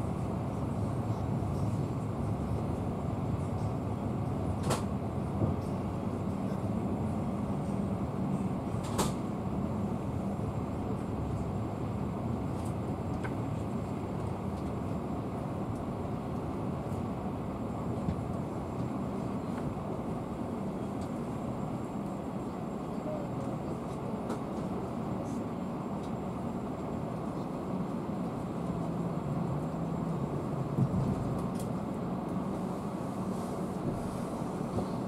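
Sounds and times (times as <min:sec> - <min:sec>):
train carriage rumble: 0:00.0 - 0:35.0.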